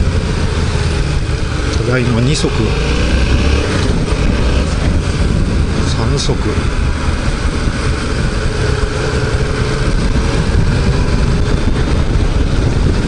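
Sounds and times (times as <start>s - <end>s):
motorcycle engine pulling steadily: 0.0s - 13.0s.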